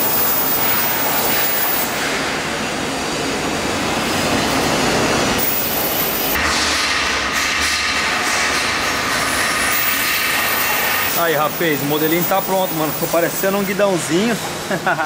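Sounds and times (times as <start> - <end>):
industrial workshop din: 0.0 - 15.0.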